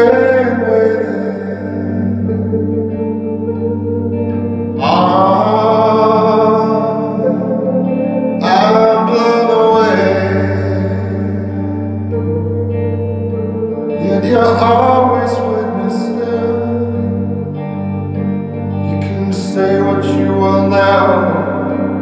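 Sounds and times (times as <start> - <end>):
instrumental music on loudspeakers: 0.0 - 22.0.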